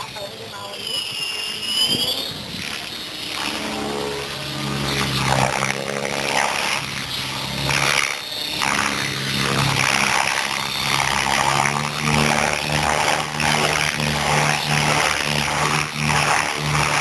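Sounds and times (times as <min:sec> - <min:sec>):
electric motor whine: 0:00.0 - 0:17.0
model helicopter rotor buzz: 0:00.0 - 0:17.0.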